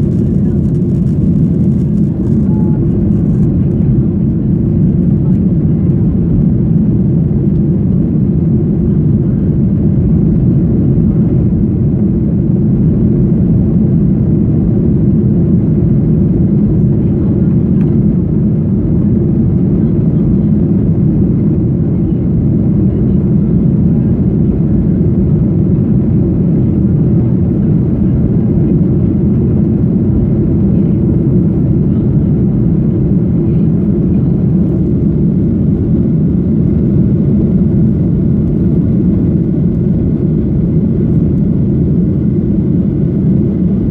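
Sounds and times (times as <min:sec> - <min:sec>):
jet engine rumble: 0:00.0 - 0:43.9.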